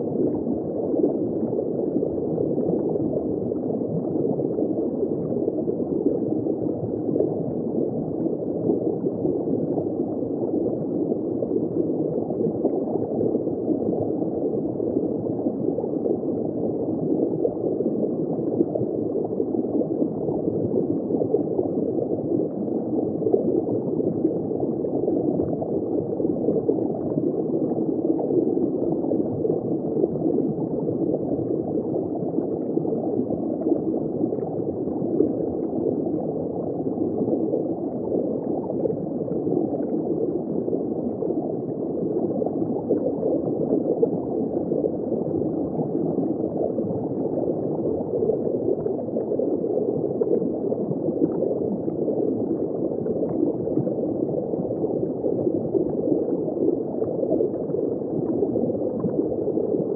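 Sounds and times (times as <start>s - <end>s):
aquarium water gurgling: 0.0s - 59.9s.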